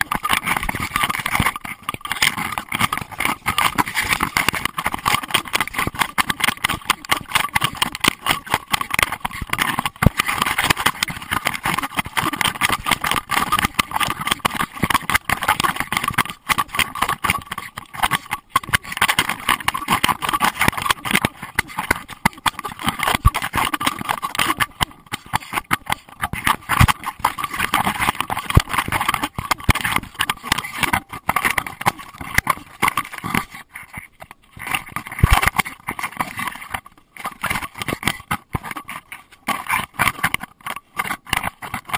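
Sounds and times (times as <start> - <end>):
camera housing rattling and knocking: 0.0 - 41.9.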